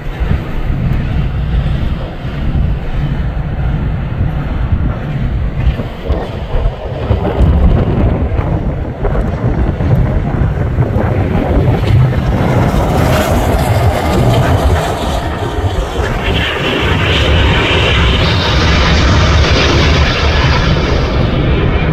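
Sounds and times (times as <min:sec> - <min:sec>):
low train rumble: 0:00.0 - 0:21.9
wind buffeting microphone: 0:00.0 - 0:21.9.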